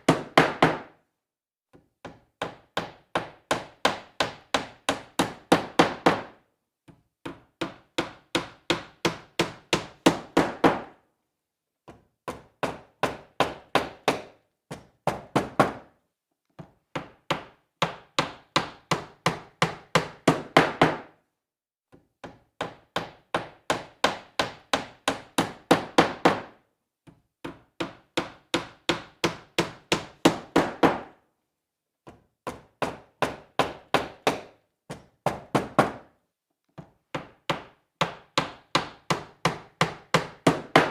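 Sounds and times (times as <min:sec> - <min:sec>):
hammer driving nails into wood: 0:00.0 - 0:01.0, 0:01.7 - 0:11.0, 0:11.8 - 0:15.9, 0:16.6 - 0:21.2, 0:21.9 - 0:31.2, 0:32.0 - 0:36.2, 0:36.8 - 0:40.9.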